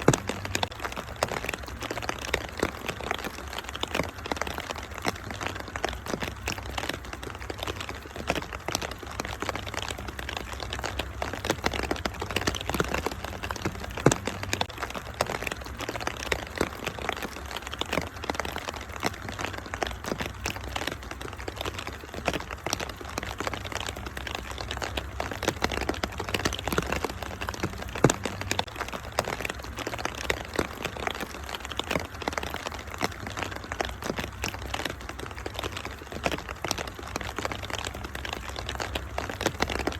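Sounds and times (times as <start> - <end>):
constant low rumble: 0.0 - 39.9
steady rain: 0.0 - 39.9
wood fire crackling: 0.0 - 39.9.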